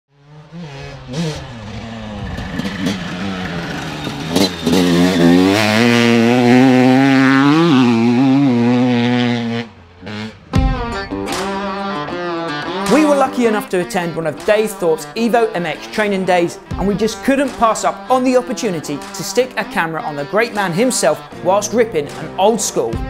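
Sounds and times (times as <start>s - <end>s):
two-stroke engine revving: 0.1s - 23.0s.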